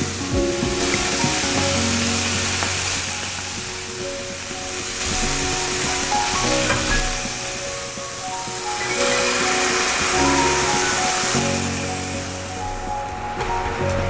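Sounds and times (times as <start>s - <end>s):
pork sizzling in a pan: 0.0s - 12.6s
background music: 0.0s - 14.0s.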